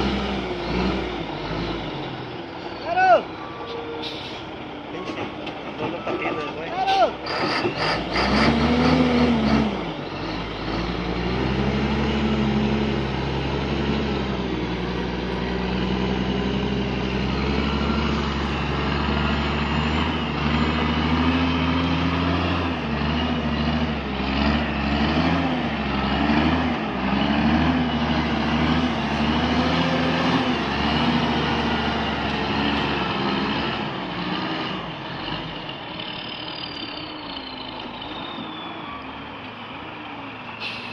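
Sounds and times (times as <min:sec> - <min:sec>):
truck diesel engine revving: 0:00.0 - 0:03.4, 0:04.0 - 0:40.9.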